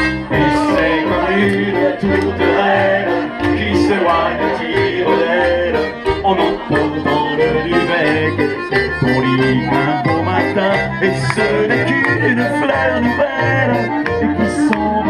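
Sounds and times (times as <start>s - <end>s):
button accordion melody: 0.0s - 15.0s
pulsing bass: 0.0s - 15.0s.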